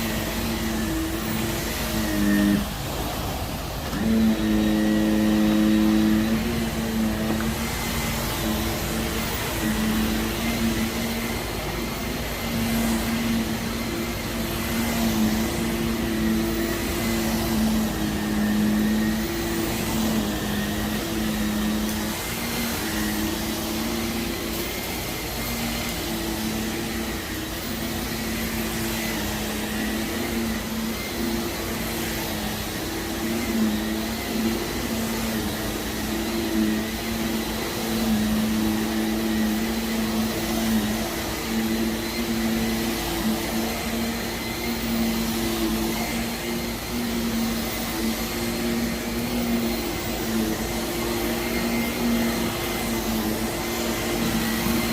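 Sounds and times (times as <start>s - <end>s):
vacuum cleaner on carpet: 0.0s - 54.9s.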